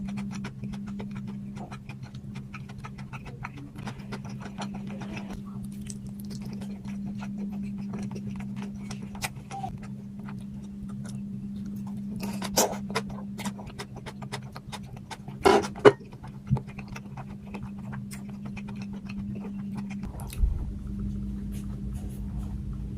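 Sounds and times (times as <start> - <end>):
person chewing: 0.0 - 22.2
low steady hum: 0.0 - 22.9.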